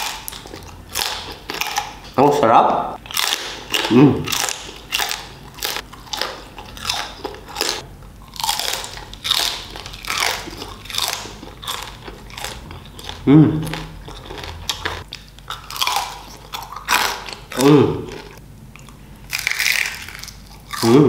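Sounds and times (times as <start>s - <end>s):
man chewing crunchy food: 0.0s - 2.2s, 3.0s - 21.0s.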